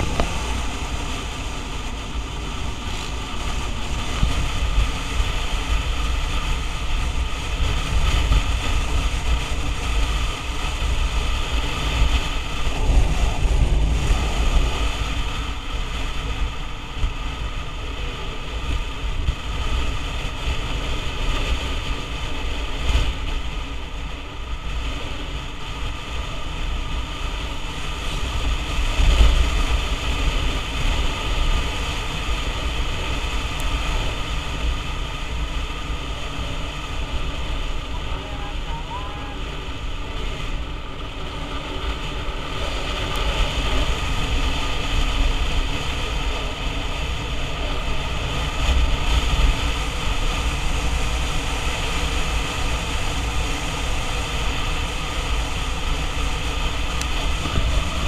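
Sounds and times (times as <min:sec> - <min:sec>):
road noise: 0:00.0 - 0:58.0
scooter engine drone: 0:00.0 - 0:58.0
wind buffeting microphone: 0:00.0 - 0:58.0.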